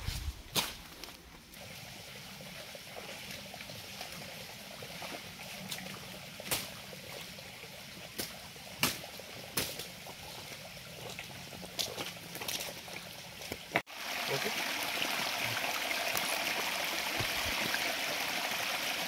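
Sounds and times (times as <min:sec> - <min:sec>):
stream water trickling and rushing: 0:00.0 - 0:19.0.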